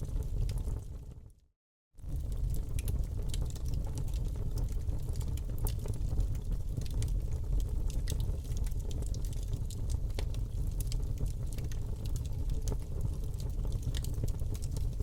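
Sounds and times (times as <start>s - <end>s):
burning wood crackling and popping: 2.0s - 15.0s
fire flames rumbling: 2.0s - 15.0s.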